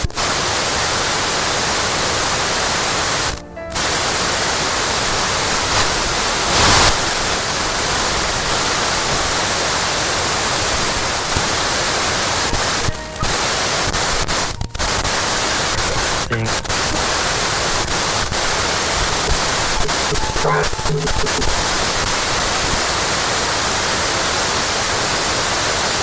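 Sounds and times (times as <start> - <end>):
television static hiss: 0.0 - 26.0.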